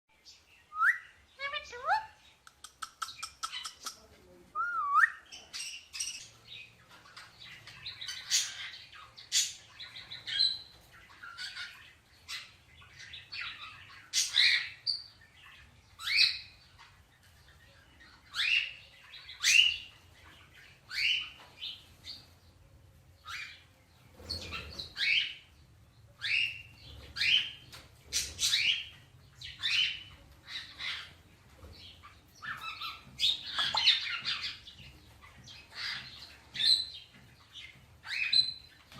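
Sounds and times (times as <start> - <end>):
parrots chirping and squawking: 1.0 - 4.0, 5.5 - 21.8, 26.2 - 38.9.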